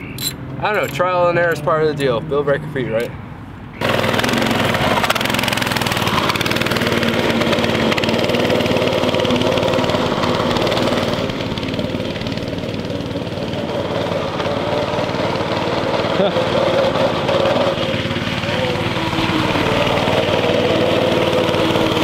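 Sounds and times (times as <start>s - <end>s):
small go-kart engine running: 3.8s - 22.0s.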